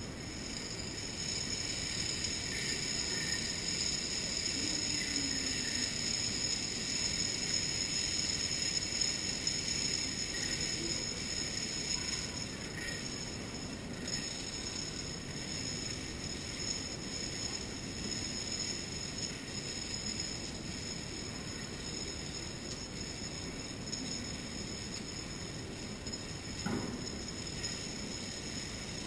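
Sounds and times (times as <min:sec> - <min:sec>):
dominoes toppling clatter: 0:00.3 - 0:29.0.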